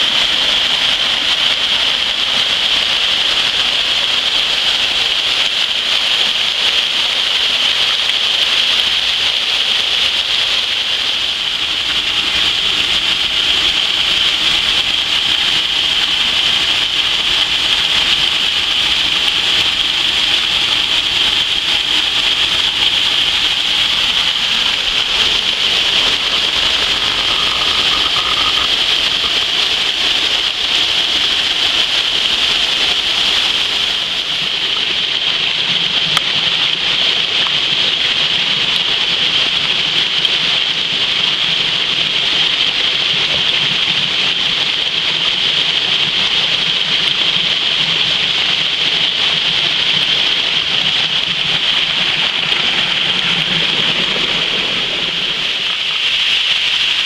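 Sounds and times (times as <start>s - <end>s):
waterfall pouring onto stone: 0.0s - 57.0s.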